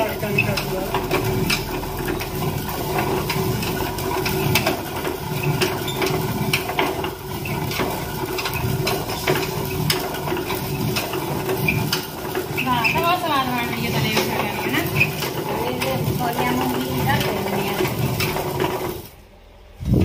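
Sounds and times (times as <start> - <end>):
stone hand mill grinding: 0.0 - 19.2.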